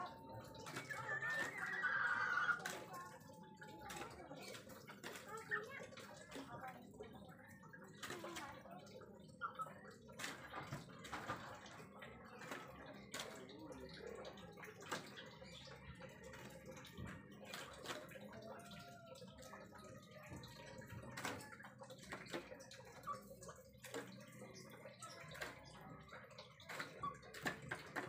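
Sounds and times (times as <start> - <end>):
chickens pecking: 0.0 - 7.0, 7.6 - 28.0.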